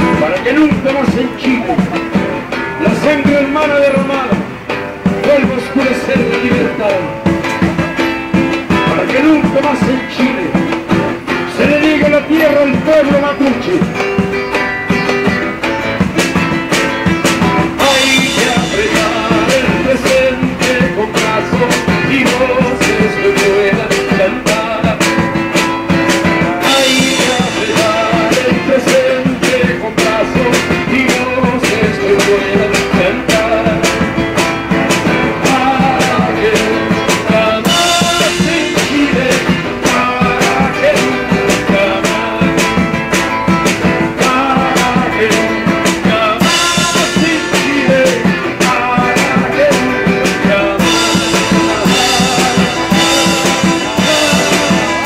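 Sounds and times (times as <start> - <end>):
acoustic guitar strumming: 0.0 - 55.0
drums keeping a steady beat: 0.0 - 55.0.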